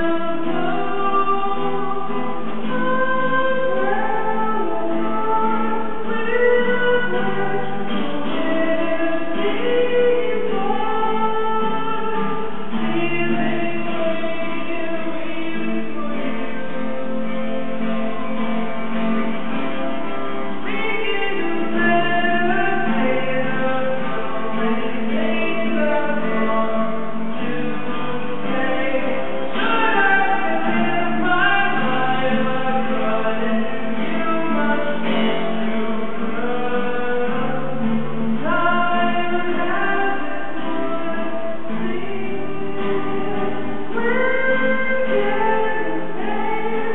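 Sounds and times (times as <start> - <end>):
acoustic guitar: 0.0 - 46.9
man singing: 0.0 - 46.9.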